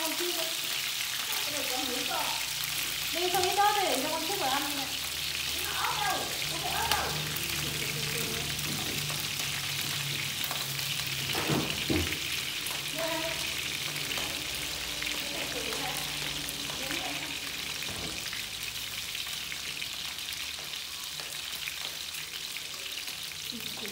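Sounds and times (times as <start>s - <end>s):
meat sizzling in oil: 0.0s - 23.9s.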